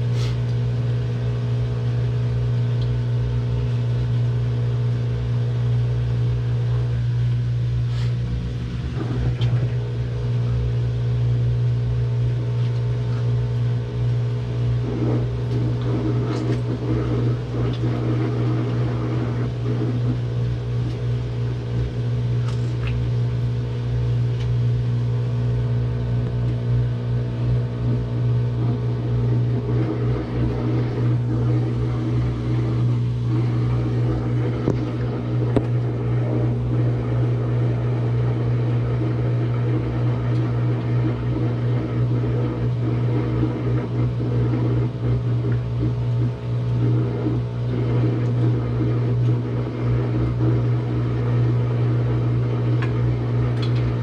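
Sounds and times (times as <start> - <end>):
washing machine spinning drone: 0.0 - 54.0.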